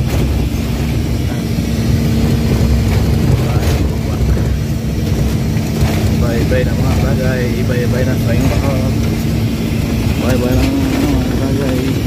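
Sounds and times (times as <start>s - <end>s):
low road rumble: 0.0s - 12.0s
vehicle engine hum: 0.0s - 12.0s.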